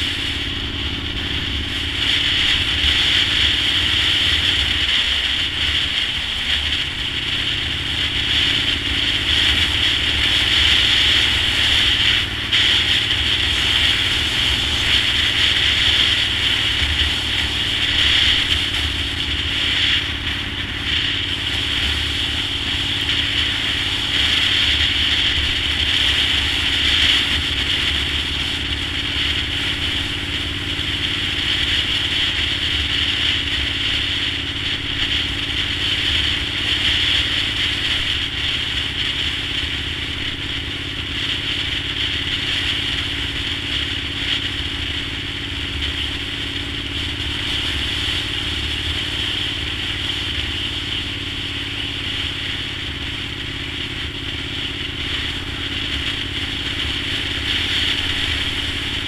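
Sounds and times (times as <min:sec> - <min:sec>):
road noise: 0:00.0 - 0:59.0.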